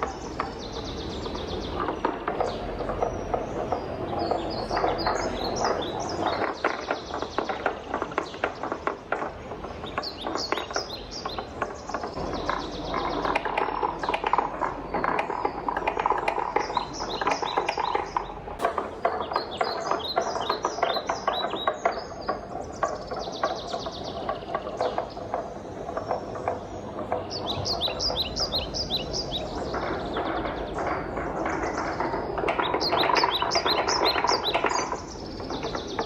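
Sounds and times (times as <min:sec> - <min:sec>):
wooden balls clacking: 0:00.0 - 0:36.0
wooden balls rolling on track: 0:00.0 - 0:36.0.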